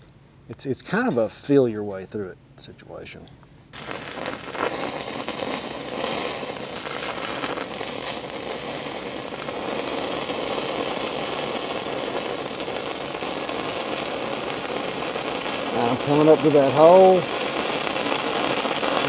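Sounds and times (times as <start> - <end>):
welding arc: 3.7 - 19.0.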